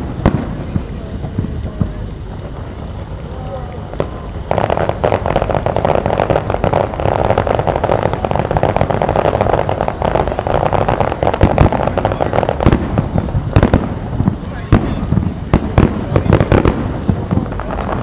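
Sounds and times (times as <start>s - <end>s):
firework bangs: 0.0s - 18.0s
fireworks crackling: 0.0s - 18.0s.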